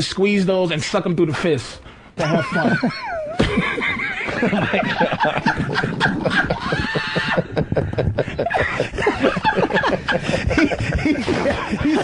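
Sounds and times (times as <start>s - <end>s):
men laughing: 2.2s - 12.0s.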